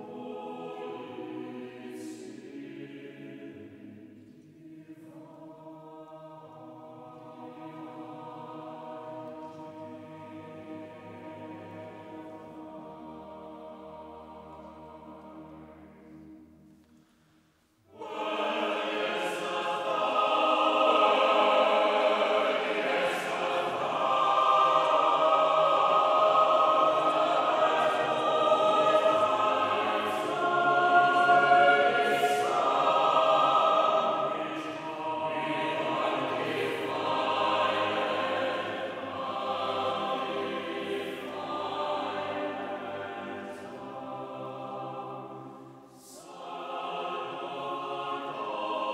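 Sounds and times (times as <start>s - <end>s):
choir singing a cappella: 0.0s - 17.0s, 17.8s - 48.9s.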